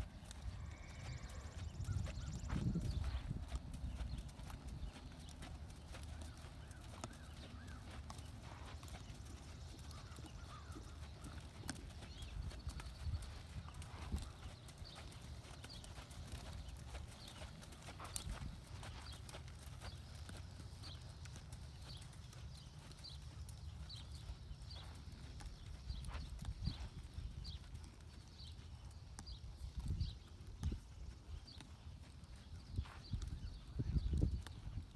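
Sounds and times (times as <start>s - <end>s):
hoofbeats on sand: 0.0s - 34.9s.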